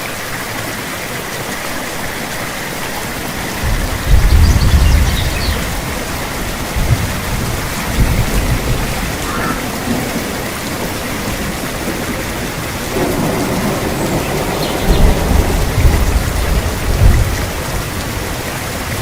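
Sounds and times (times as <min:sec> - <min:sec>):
heavy rainfall: 0:00.0 - 0:19.0
rumble of thunder: 0:03.0 - 0:19.0.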